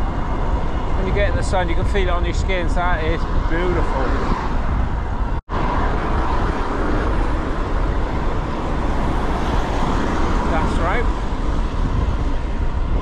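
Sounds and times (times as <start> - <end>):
bike road noise: 0.0 - 13.0
wind buffeting microphone: 0.0 - 13.0.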